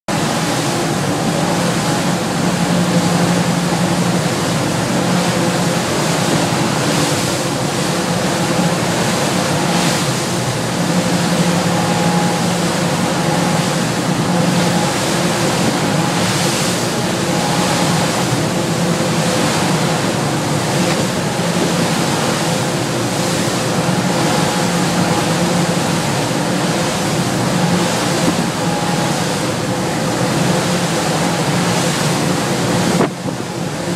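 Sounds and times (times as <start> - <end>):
boat diesel engines droning: 0.1 - 33.9
wind and water rushing: 0.1 - 33.9.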